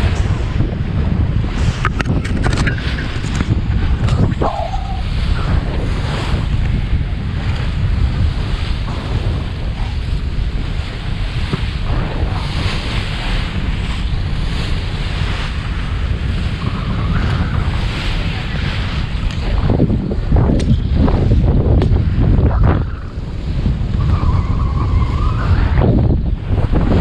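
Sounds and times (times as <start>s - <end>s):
sea rushing: 0.0s - 27.0s
wind buffeting microphone: 0.0s - 27.0s.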